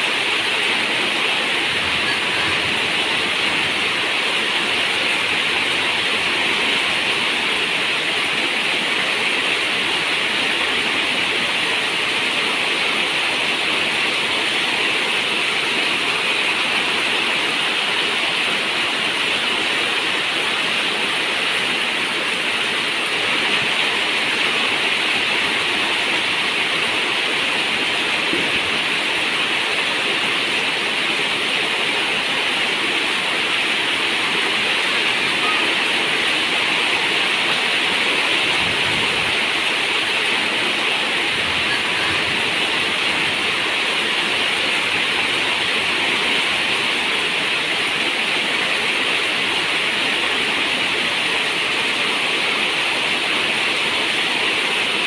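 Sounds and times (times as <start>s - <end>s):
heavy rain: 0.0s - 55.0s
running river water: 0.0s - 55.0s.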